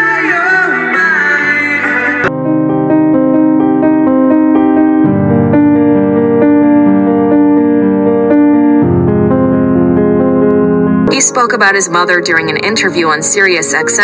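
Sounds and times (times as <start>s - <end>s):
piano held chords: 0.0s - 14.0s.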